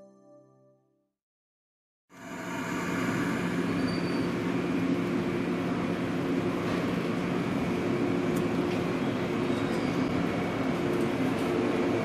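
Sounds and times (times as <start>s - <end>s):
electric train humming: 2.1s - 12.0s.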